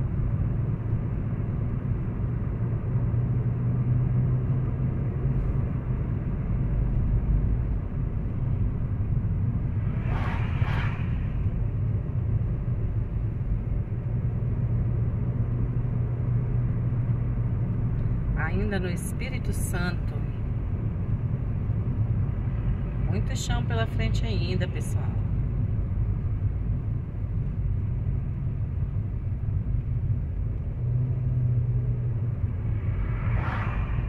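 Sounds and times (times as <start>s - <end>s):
road and engine rumble in car: 0.0s - 34.0s.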